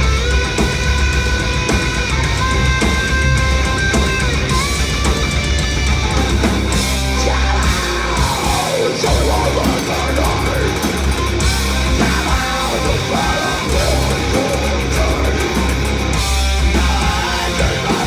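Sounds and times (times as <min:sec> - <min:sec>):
heavy metal band playing live: 0:00.0 - 0:18.0.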